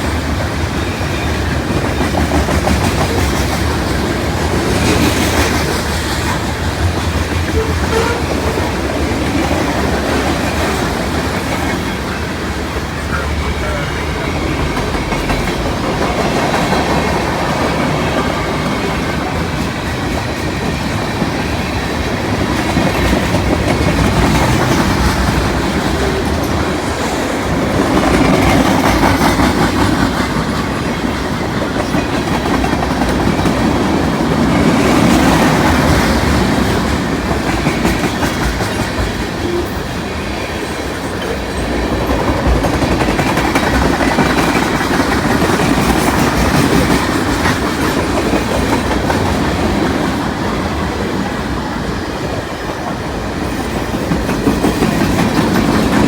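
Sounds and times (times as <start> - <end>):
train wheels rumbling over rail joints: 0.0 - 56.0.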